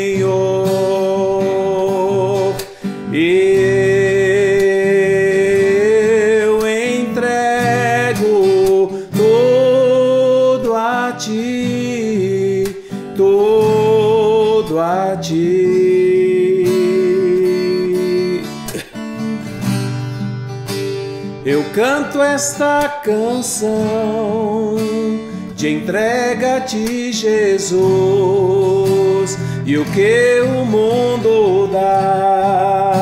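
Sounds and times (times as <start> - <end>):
man singing with vibrato: 0.0 - 19.0, 21.4 - 33.0
strummed acoustic guitar: 0.0 - 33.0.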